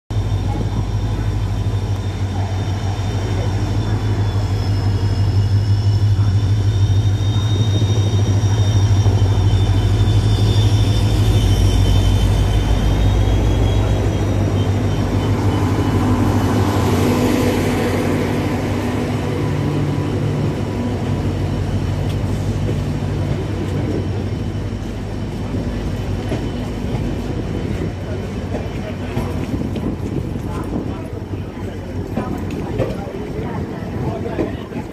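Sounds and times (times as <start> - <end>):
locomotive hum with wavering whine: 0.1 - 29.6
train coaches rolling by: 0.1 - 34.9.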